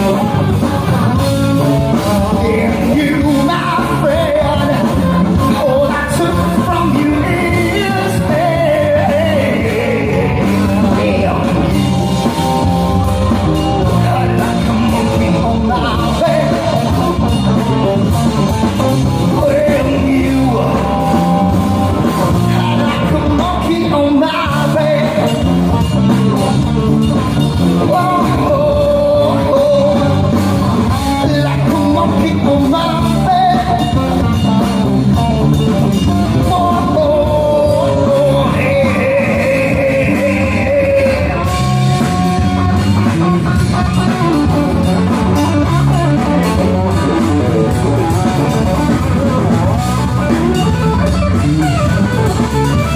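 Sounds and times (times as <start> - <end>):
person singing into microphone: 0.0 - 49.6
electric guitars: 0.0 - 52.9.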